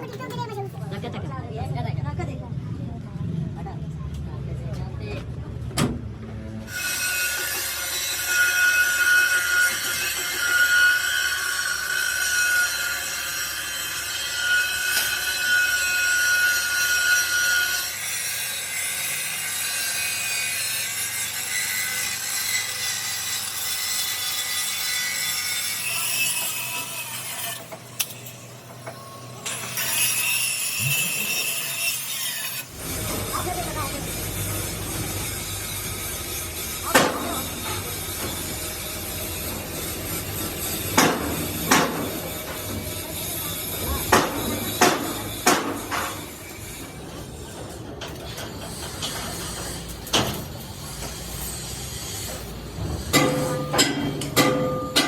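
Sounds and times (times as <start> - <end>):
metal grinding: 6.7 - 55.0.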